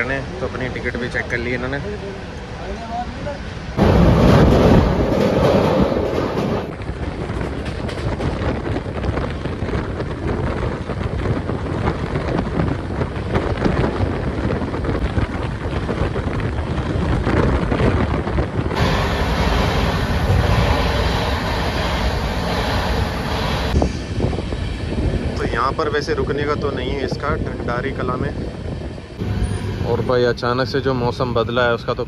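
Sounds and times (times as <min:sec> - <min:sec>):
train wheels rumbling on rails: 0:00.0 - 0:32.0
wind buffeting microphone: 0:03.4 - 0:31.3.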